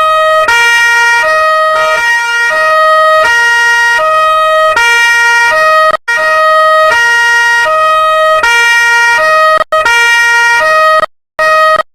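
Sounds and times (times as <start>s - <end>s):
two-tone police siren: 0.0s - 11.9s.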